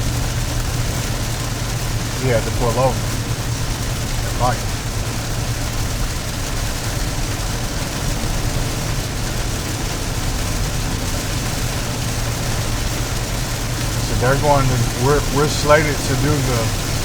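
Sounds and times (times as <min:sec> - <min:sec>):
car engine hum: 0:00.0 - 0:17.0
tyres hissing on wet road: 0:00.0 - 0:17.0.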